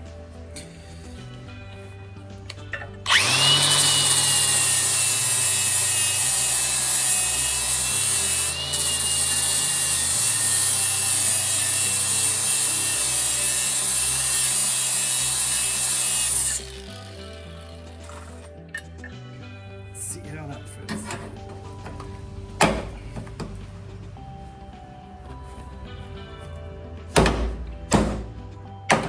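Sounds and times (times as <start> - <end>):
power grinder grinding steel: 2.5 - 18.7, 20.4 - 29.0.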